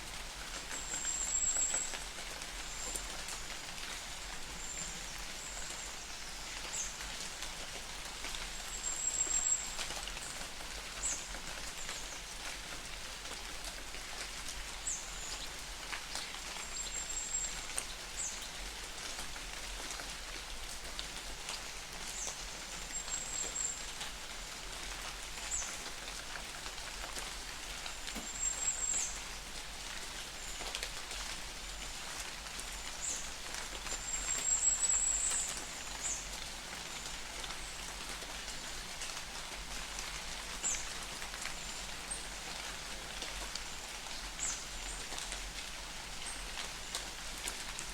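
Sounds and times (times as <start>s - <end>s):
rain pattering on leaves: 0.0s - 47.9s.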